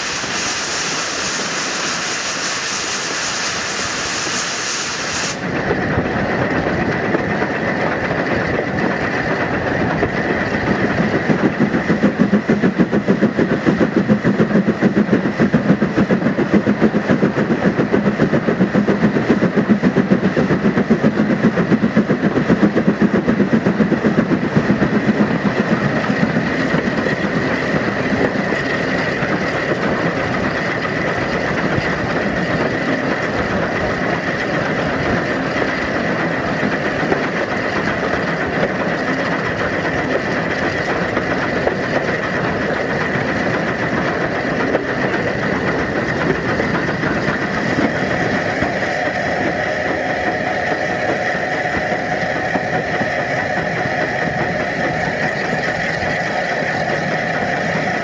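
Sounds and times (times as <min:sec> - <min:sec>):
steady high whine: 0:00.0 - 0:58.0
train wheels clattering on rails: 0:00.0 - 0:58.0.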